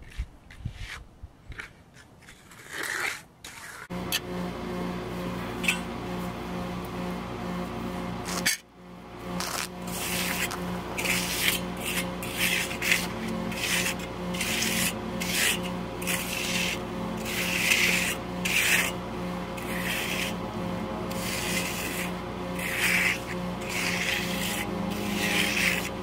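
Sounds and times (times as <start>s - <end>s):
trowel scraping concrete: 0.0s - 4.3s, 4.9s - 8.6s, 9.2s - 26.0s.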